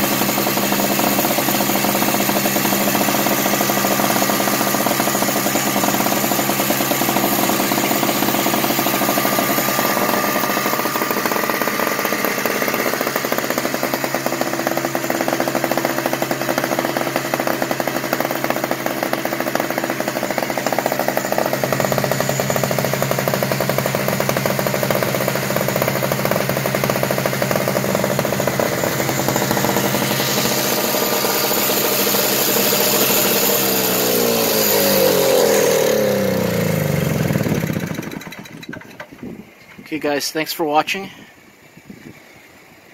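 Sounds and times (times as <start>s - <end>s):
snow blower engine running: 0.0s - 40.2s.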